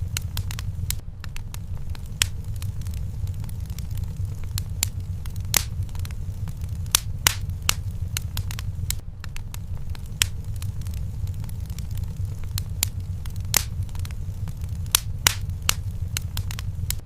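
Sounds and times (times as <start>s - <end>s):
low rumble: 0.0s - 17.0s
wood fire crackling and popping: 0.0s - 17.0s.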